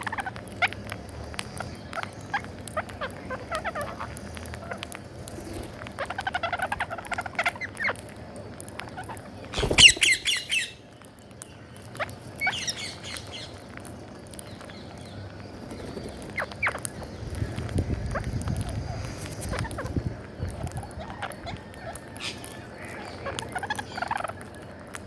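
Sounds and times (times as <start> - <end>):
parakeets squawking and chattering: 0.0 - 25.0.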